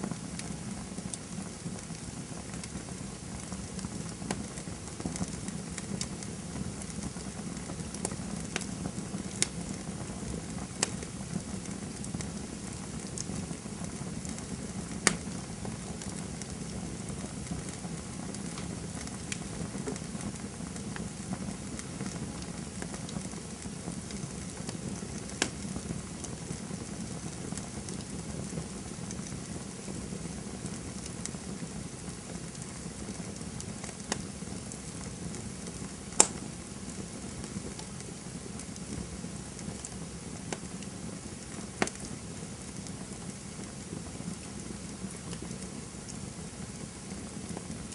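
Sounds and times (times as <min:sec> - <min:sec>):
burning wood popping and crackling: 0:00.0 - 0:47.9
campfire flames hissing: 0:00.0 - 0:47.9.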